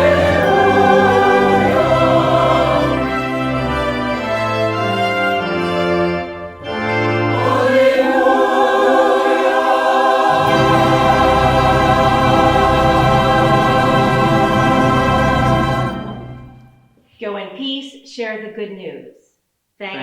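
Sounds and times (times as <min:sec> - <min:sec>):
choir singing a hymn: 0:00.0 - 0:16.6
organ: 0:00.0 - 0:16.8.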